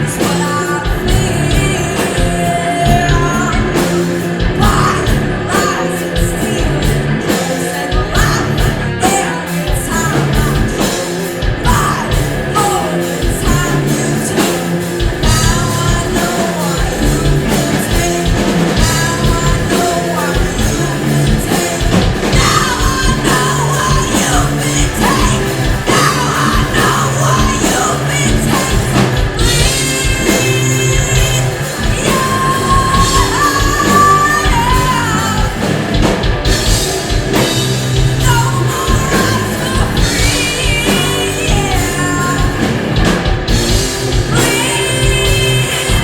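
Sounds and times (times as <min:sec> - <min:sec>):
drums hitting: 0:00.0 - 0:46.0
rock band playing: 0:00.0 - 0:46.0.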